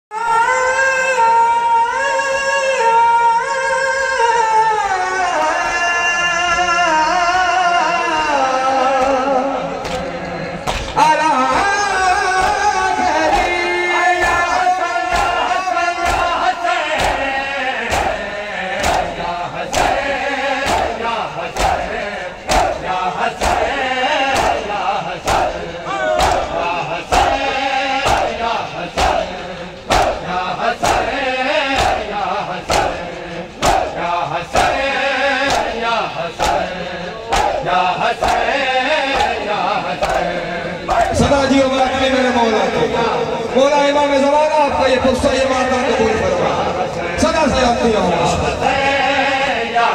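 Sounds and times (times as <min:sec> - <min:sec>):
man singing lament into microphone: 0:00.1 - 0:49.9
voices chanting: 0:04.9 - 0:49.9.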